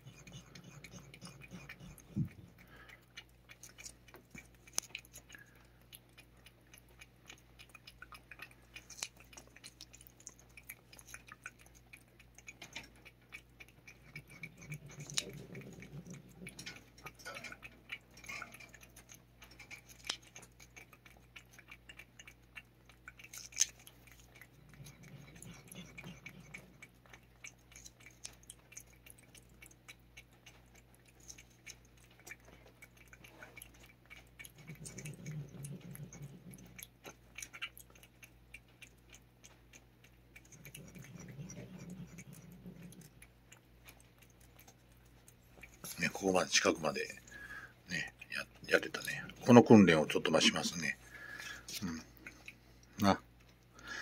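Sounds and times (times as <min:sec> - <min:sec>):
cat licking: 0:00.0 - 0:54.0.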